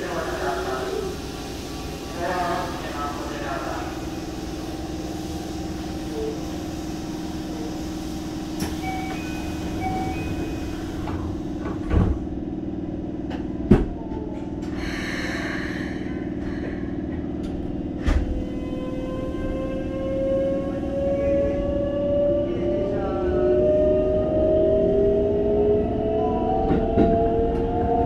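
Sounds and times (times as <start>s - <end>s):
train electrical hum: 0.0s - 28.0s.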